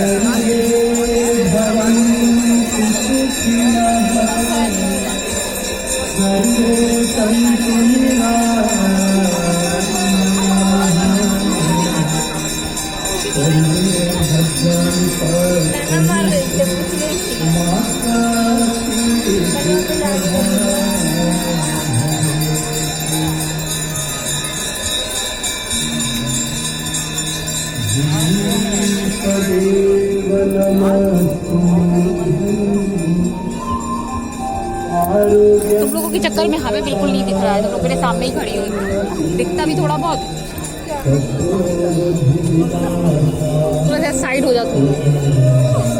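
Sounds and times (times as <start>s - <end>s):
jingling bells: 0.0s - 45.9s
slow held melody: 0.0s - 45.9s.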